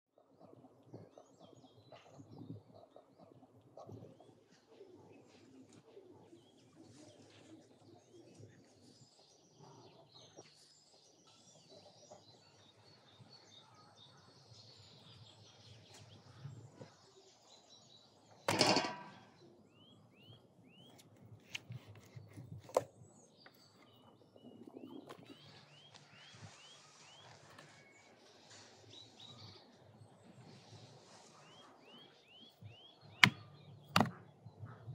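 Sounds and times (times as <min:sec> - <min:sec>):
small birds chirping: 0:00.3 - 0:34.9.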